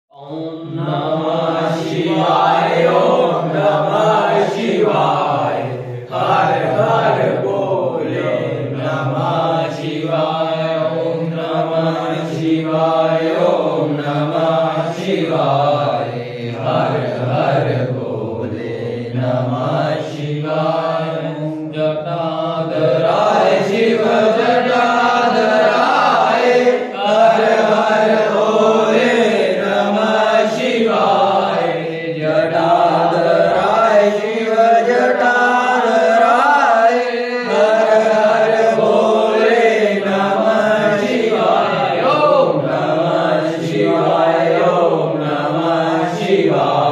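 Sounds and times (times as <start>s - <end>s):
group chanting devotional song: 0.1s - 46.9s.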